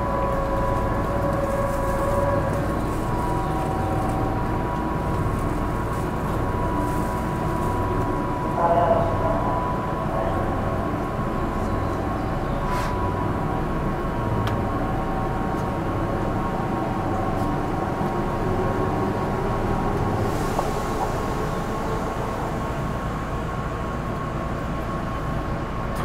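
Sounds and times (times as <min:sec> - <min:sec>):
train equipment humming: 0:00.0 - 0:26.0.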